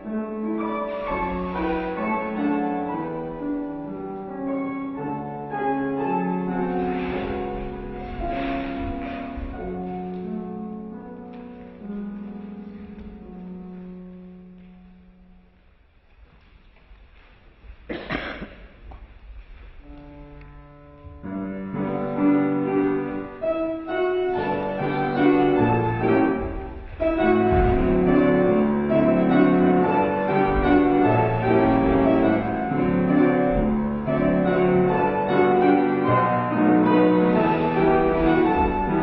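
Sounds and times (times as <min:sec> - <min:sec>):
piano playing: 0:00.0 - 0:15.9, 0:19.6 - 0:39.0.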